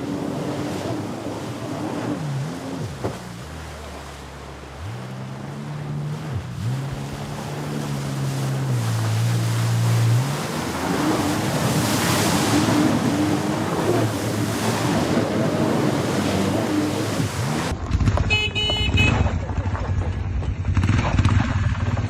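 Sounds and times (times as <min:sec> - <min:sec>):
jet ski engine humming: 0:00.0 - 0:17.7, 0:18.3 - 0:20.6
rush of water spray and wind: 0:00.0 - 0:19.1.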